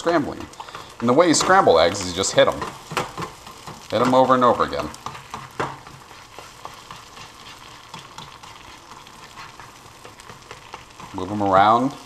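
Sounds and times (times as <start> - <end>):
eggs sizzling in a skillet: 0.0 - 12.0
whisk tapping a pan: 0.0 - 12.0.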